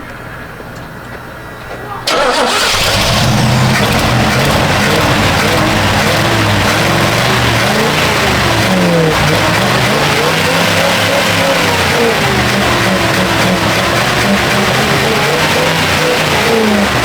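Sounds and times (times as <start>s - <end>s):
pickup engine revving: 2.1s - 17.0s.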